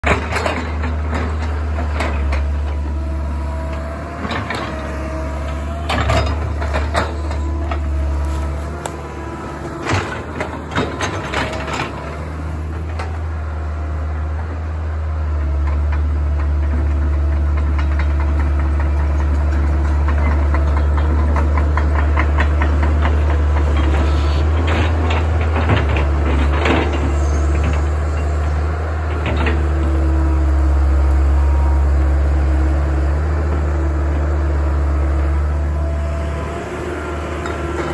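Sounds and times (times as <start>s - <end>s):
excavator diesel engine under load: 0.0s - 37.9s.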